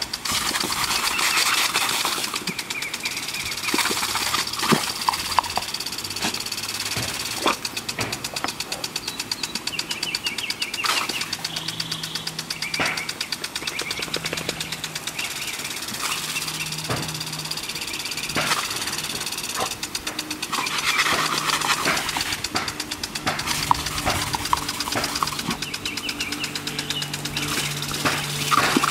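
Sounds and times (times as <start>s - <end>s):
sprinkler head ticking rapidly: 0.0s - 28.9s
water spray hissing: 0.0s - 28.9s.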